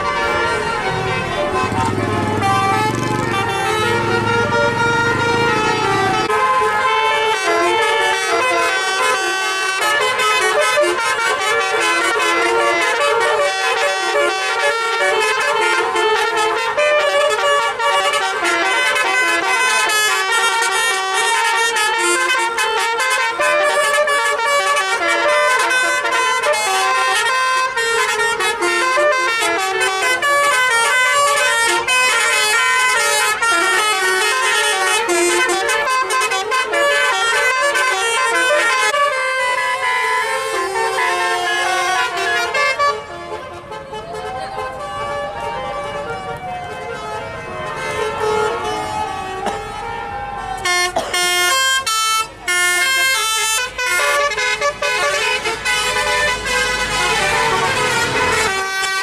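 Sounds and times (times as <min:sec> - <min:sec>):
musical bus horn melody: 0:00.0 - 0:59.0.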